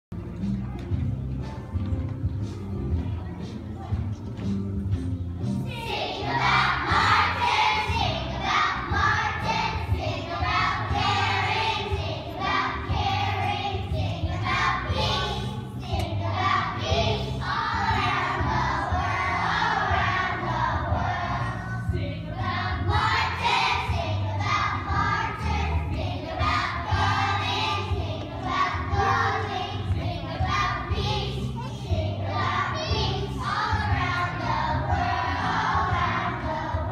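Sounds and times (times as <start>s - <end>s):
instrumental accompaniment: 0.1s - 36.9s
children's choir singing: 5.6s - 36.9s.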